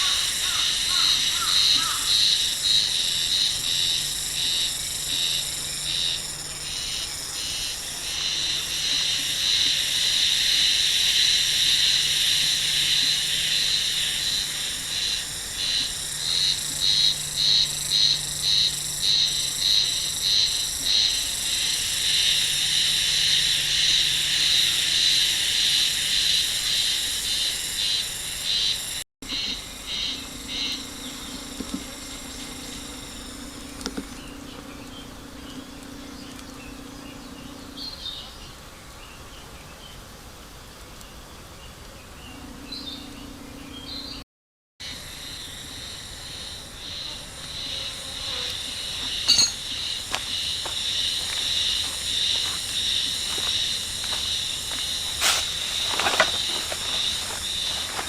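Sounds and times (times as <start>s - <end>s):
insects singing: 0.0s - 38.7s, 44.8s - 58.0s.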